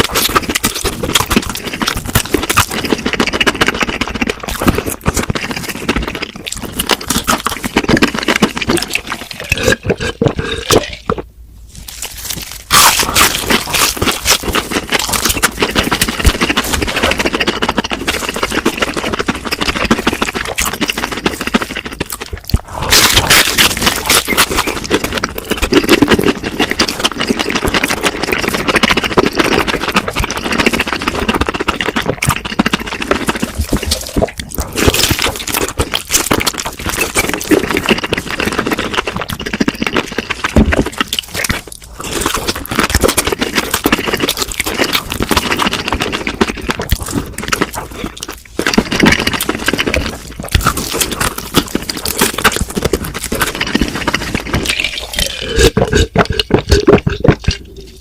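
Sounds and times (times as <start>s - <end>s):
crunching and chewing crispy food: 0.0s - 58.0s.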